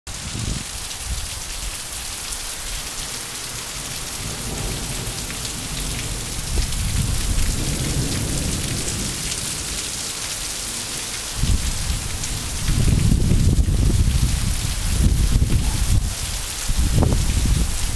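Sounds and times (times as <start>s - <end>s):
heavy rain on roofs and foliage: 0.1s - 17.9s.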